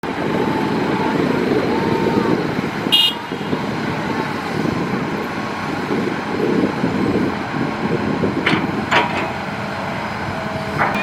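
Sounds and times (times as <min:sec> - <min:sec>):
excavator diesel rumble: 0:00.0 - 0:11.0.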